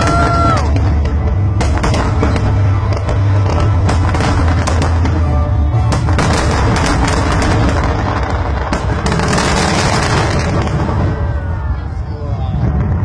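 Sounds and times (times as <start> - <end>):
music playing: 0.0 - 11.8
fireworks bangs and crackling: 0.0 - 13.0.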